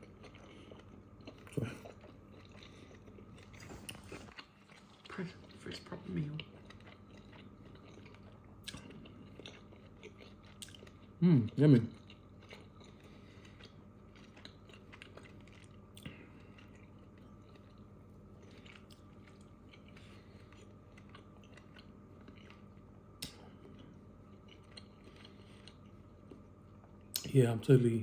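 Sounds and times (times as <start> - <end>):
person chewing food: 0.0 - 27.3
steady low hum: 0.0 - 28.0.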